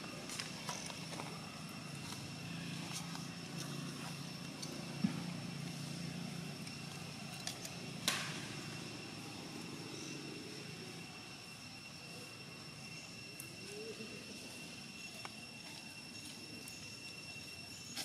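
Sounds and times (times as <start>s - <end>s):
distant traffic hum: 0.0s - 18.0s
high-pitched whine: 0.0s - 18.0s.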